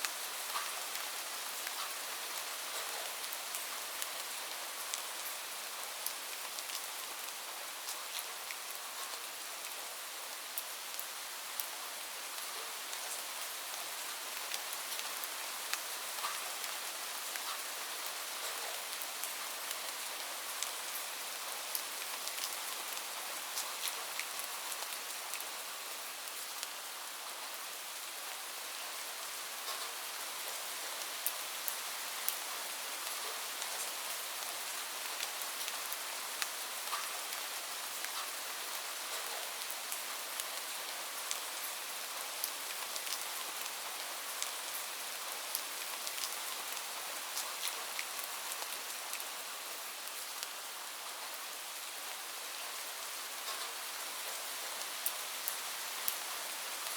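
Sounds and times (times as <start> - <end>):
raindrops ticking on a surface: 0.0 - 9.8, 10.4 - 27.6, 28.7 - 51.0, 52.6 - 56.9
light rain falling: 0.0 - 56.9.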